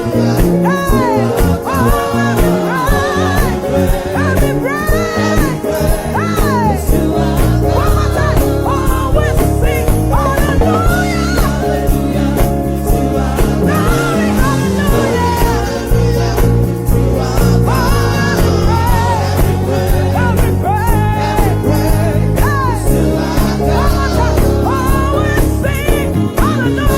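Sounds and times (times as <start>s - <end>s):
choir singing: 0.0s - 25.5s
band playing gospel music: 0.0s - 26.9s
lead singer singing: 0.0s - 26.9s.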